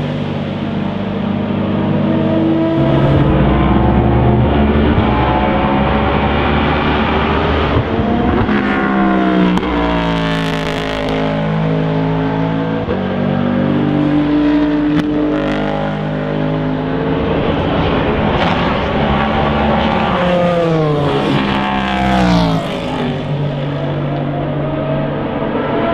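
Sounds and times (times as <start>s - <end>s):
race car engine revving: 0.9s - 25.9s.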